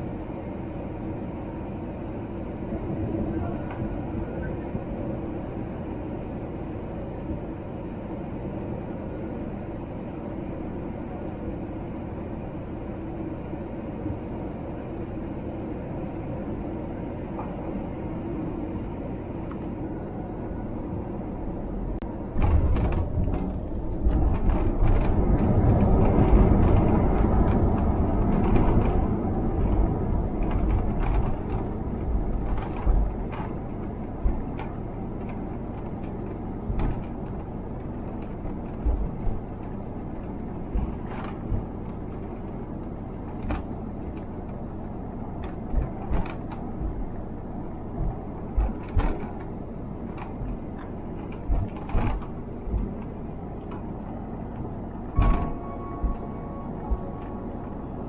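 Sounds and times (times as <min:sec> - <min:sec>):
wheels rumbling on runway: 0:00.0 - 0:55.5
aircraft engine and airflow noise: 0:00.0 - 0:58.0.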